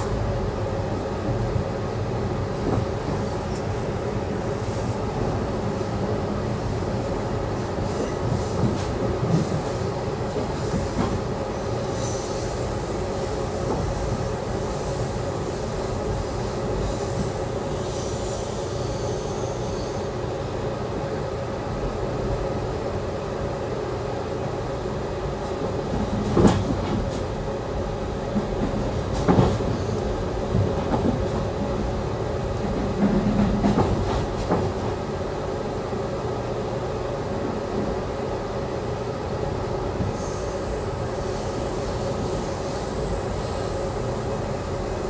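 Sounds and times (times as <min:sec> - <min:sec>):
train rumble and hum: 0:00.0 - 0:45.0.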